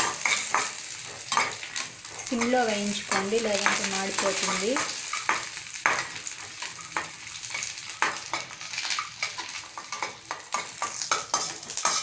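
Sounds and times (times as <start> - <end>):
metal spatula scraping a pan: 0.0 - 12.0
nuts frying and sizzling: 0.0 - 12.0.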